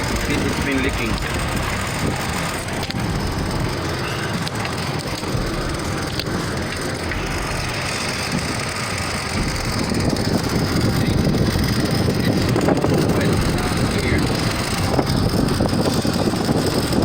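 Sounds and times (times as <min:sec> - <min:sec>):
rough rumbling noise: 0:00.0 - 0:17.0
truck engine idling: 0:00.0 - 0:17.0.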